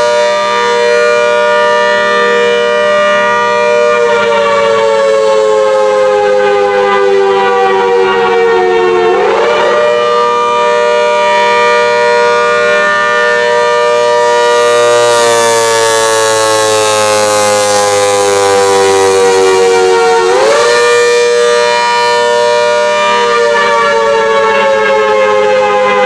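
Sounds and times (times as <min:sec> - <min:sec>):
warning siren two-note chord: 0:00.0 - 0:26.0.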